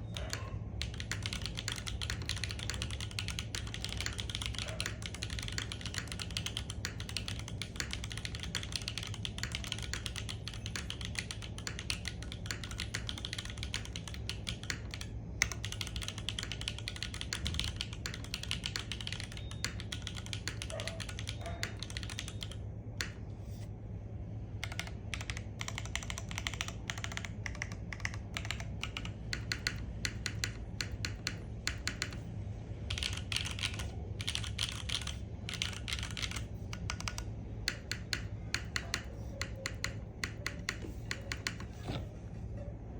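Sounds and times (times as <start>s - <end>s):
fast typing on mechanical keyboard: 0.0s - 23.2s, 24.6s - 32.2s, 32.8s - 41.8s
steady low hum: 0.0s - 42.9s.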